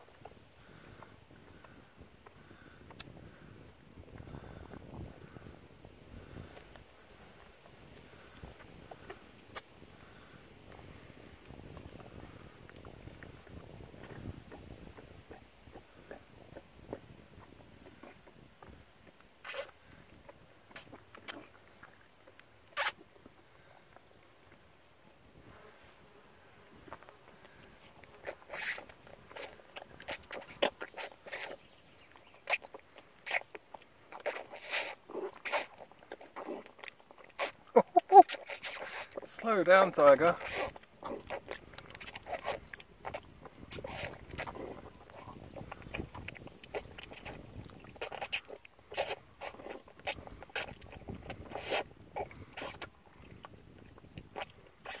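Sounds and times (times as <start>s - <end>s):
foal sucking and smacking: 6.2s - 55.0s.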